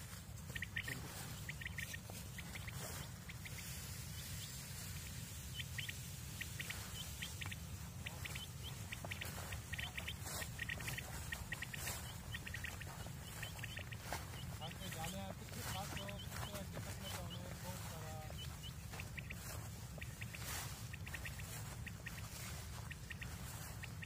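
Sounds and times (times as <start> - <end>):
quail calling: 0.0 - 24.0.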